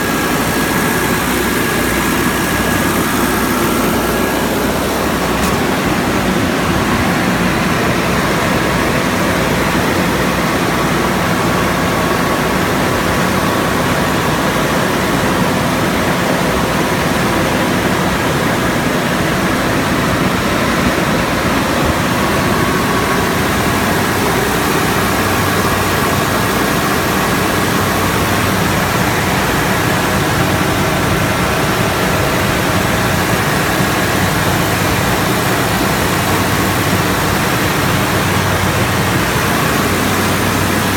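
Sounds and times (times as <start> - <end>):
air-conditioning unit rushing air: 0.0 - 40.9.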